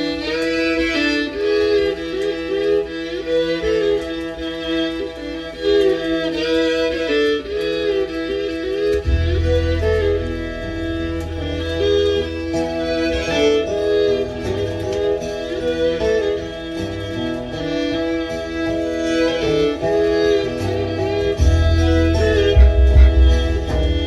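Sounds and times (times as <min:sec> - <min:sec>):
roots song with fiddle and guitar: 0:00.0 - 0:24.0.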